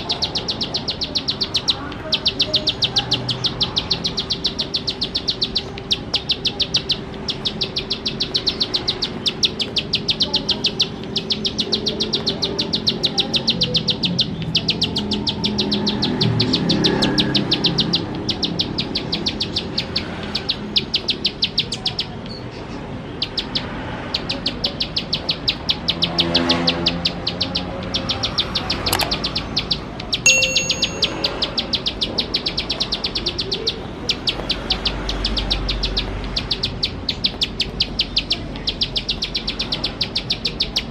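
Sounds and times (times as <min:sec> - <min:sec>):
bird singing rapid ticking notes: 0:00.0 - 0:40.9.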